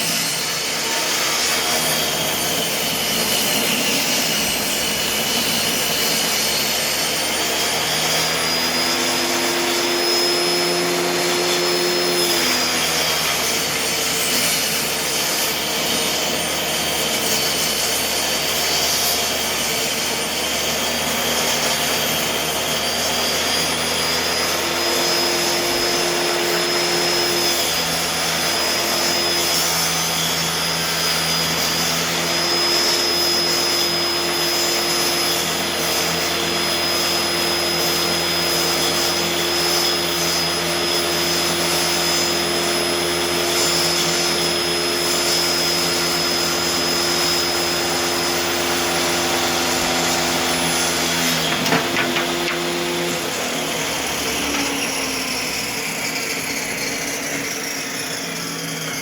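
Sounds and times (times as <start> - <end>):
saw blade cutting plywood: 0.0 - 59.0
table saw whine: 0.0 - 59.0.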